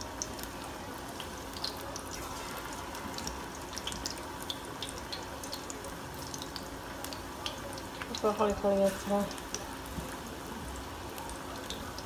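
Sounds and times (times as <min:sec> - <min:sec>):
deep-frying sizzle with pops: 0:00.0 - 0:12.0.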